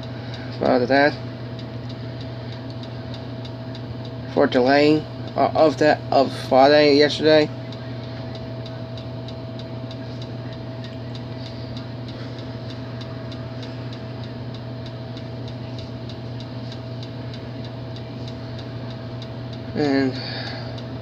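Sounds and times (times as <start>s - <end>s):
light regular ticking: 0.0s - 21.0s
room hum: 0.0s - 21.0s
thin steady whine: 0.0s - 21.0s.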